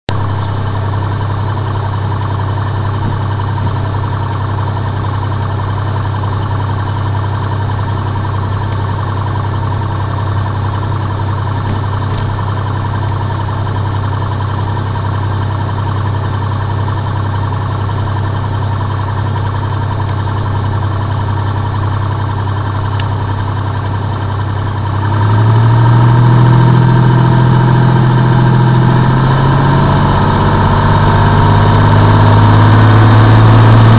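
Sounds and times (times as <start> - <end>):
small plane engine: 0.1 - 33.9.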